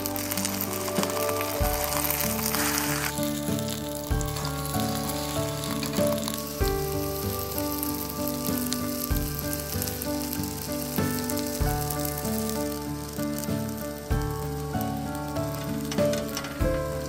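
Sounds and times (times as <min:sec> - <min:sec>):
leaves sizzling in hot oil: 0:00.0 - 0:17.0
soft background music: 0:00.0 - 0:17.0.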